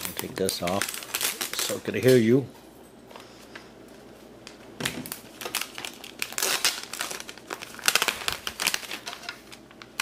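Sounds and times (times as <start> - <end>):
plastic wrap crinkling: 0.0 - 2.5, 3.9 - 10.0.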